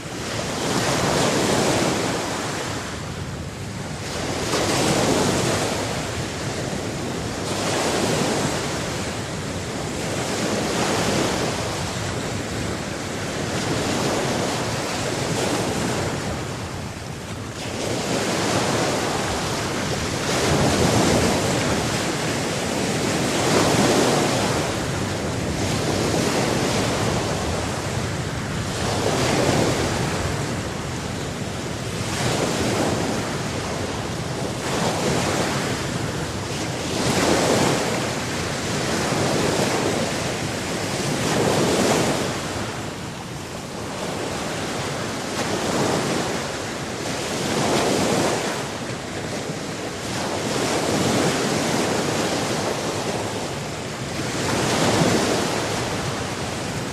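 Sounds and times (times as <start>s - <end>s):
sea waves breaking: 0.0s - 56.9s.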